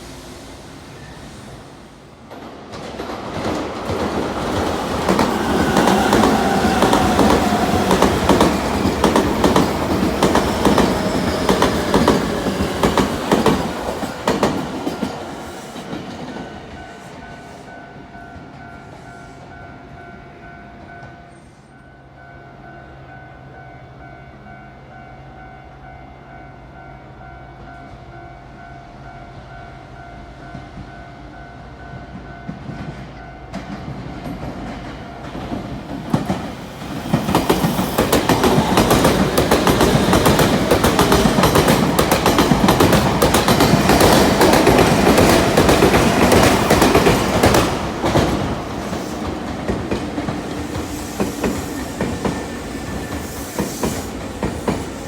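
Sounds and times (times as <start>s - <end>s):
electric train passing: 0.0s - 55.0s.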